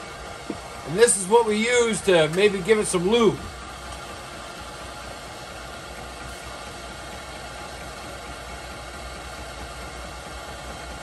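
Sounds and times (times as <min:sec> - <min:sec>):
heat engine whirring hiss: 0:00.0 - 0:11.0.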